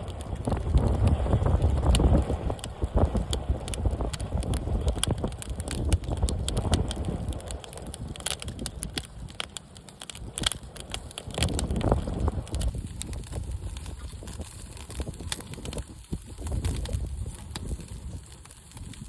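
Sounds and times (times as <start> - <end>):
campfire crackling: 0.0 - 19.0
wind buffeting microphone: 0.0 - 19.0.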